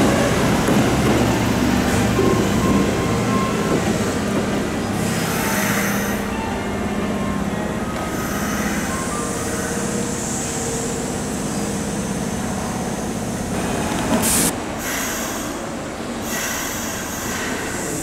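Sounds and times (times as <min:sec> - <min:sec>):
electric train running: 0:00.0 - 0:15.6.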